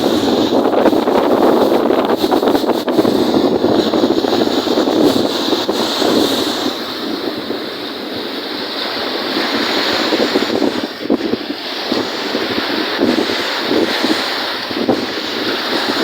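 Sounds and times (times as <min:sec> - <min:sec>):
waves on a lake: 0:00.0 - 0:16.0
wind buffeting microphone: 0:00.0 - 0:16.0.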